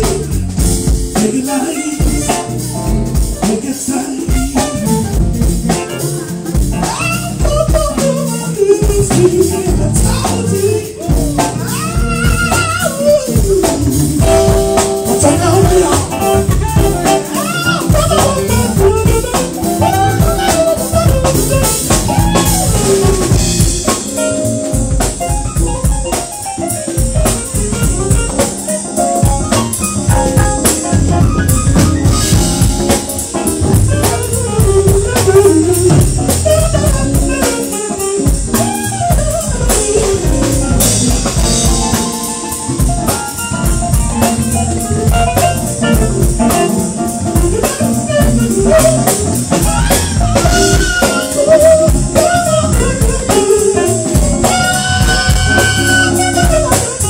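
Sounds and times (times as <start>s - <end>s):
drum kit with rimshots: 0.0s - 57.0s
electric bass: 0.0s - 57.0s.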